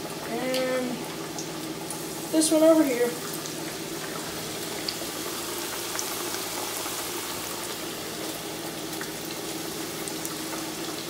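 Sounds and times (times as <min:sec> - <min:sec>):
fish deep-frying sizzling: 0:00.0 - 0:11.0.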